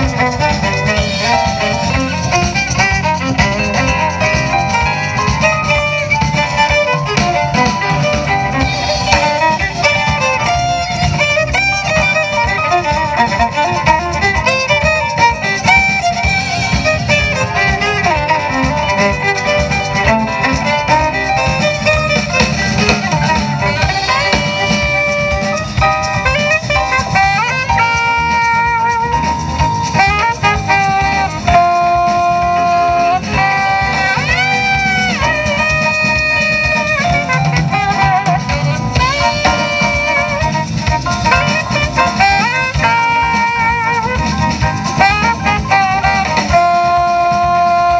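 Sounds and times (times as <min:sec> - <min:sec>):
drum kit: 0:00.0 - 0:47.9
electric bass guitar: 0:00.0 - 0:47.9
keyboard: 0:00.0 - 0:47.9
saxophone melody: 0:00.0 - 0:47.9
violin melody: 0:00.0 - 0:47.9.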